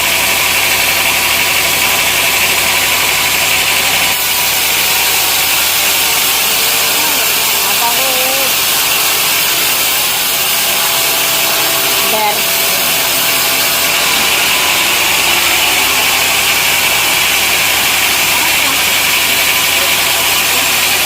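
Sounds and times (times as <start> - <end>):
saw cutting through log: 0.0 - 21.0
sawmill machinery running: 0.0 - 21.0.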